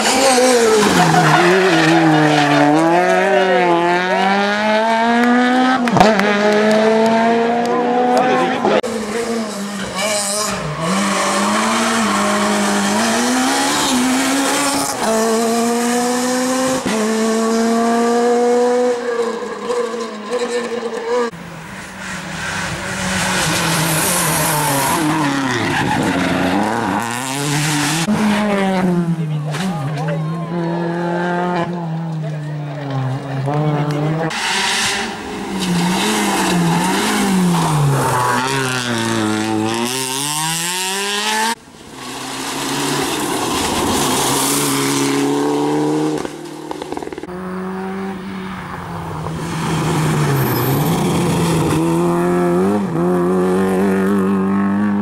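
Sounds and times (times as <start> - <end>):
rally car engines: 0.0 - 55.0.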